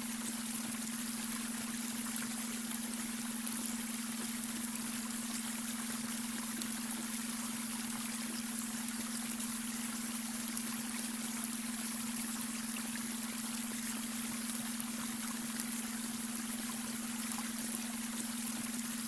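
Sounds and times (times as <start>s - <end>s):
brook water trickling: 0.0s - 19.0s.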